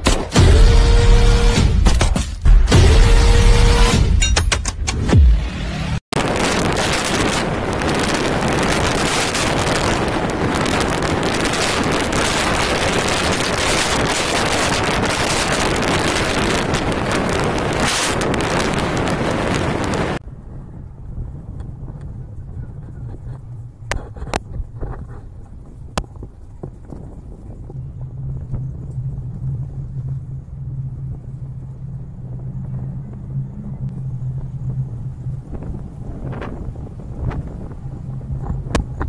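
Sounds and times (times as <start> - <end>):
low rumble: 0.0 - 39.0
wind buffeting the microphone: 6.2 - 39.0.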